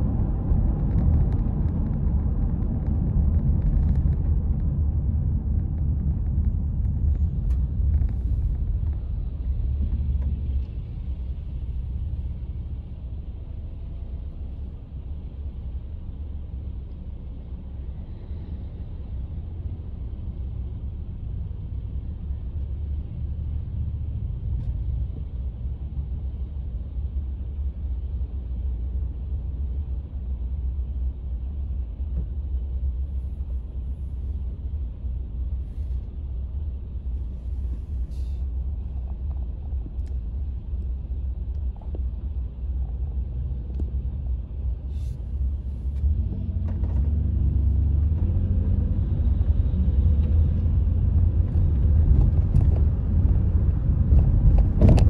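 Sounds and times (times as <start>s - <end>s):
car engine rumble from inside: 0.0s - 55.0s.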